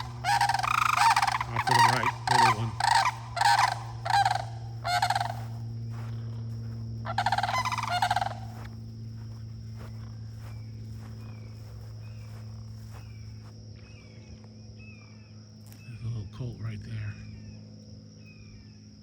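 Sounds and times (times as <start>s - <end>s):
high insect buzz: 0.0s - 15.9s
cranes calling: 0.0s - 18.9s.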